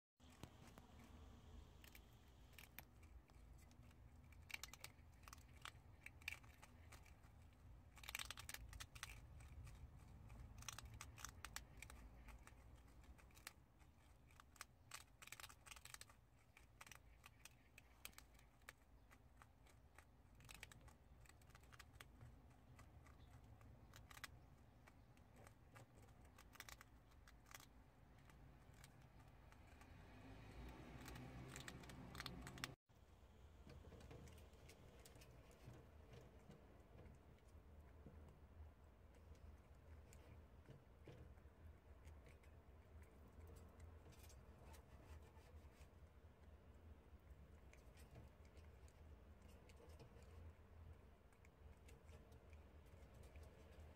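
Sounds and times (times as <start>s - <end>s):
prairie dogs gnawing seeds: 0.2s - 32.8s, 33.4s - 53.9s.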